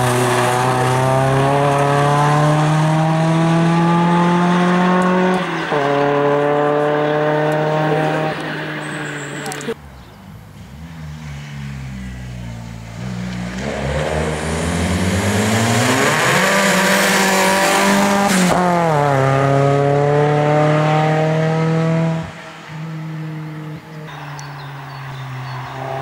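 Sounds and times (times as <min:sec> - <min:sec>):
rally car engine accelerating: 0:00.0 - 0:09.8, 0:10.6 - 0:26.0.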